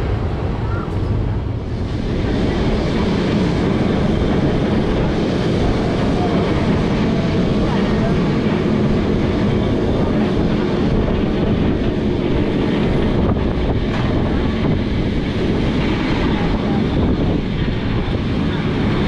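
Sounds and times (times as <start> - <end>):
tram wheels rumbling on track: 0.0 - 19.0
wind rushing over microphone: 0.0 - 19.0.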